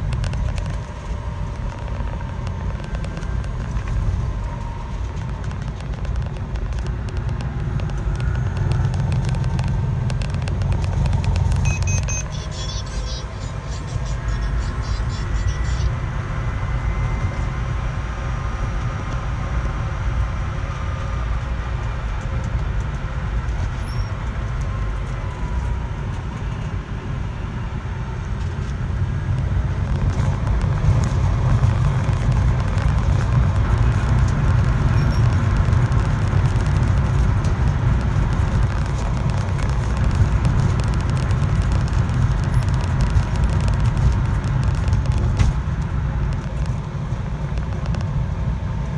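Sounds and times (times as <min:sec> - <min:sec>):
car engine low rumble: 0:00.0 - 0:48.9.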